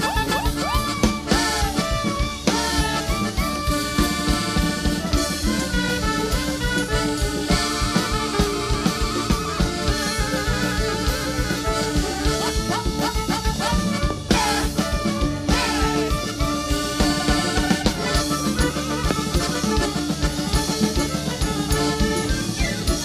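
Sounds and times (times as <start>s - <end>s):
band music with drum beat: 0.0s - 23.0s.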